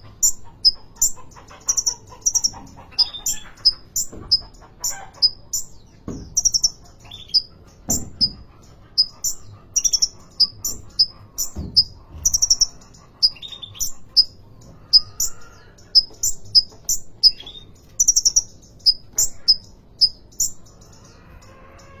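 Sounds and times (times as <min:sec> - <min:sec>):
sunbird chirping and trilling: 0:00.0 - 0:22.0.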